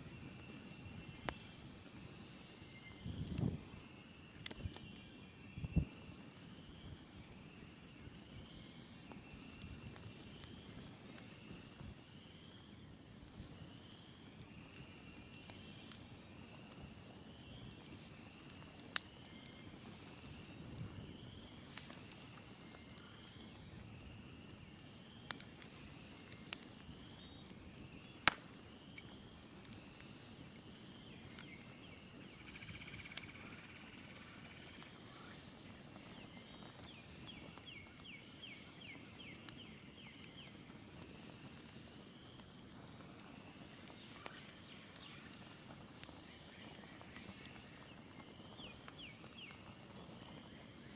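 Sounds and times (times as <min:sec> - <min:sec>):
campfire popping: 0:00.0 - 0:50.9.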